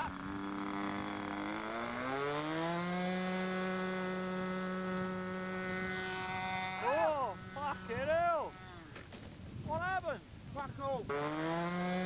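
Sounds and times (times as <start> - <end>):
model plane engine revving: 0.0 - 9.1, 11.1 - 12.0.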